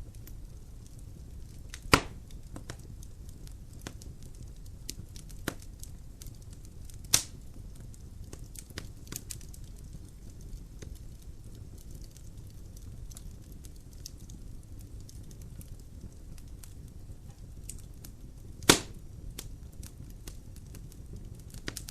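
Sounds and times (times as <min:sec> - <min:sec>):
logs crackling in a fireplace: 0:00.0 - 0:21.9
loud fire pops: 0:00.0 - 0:21.9.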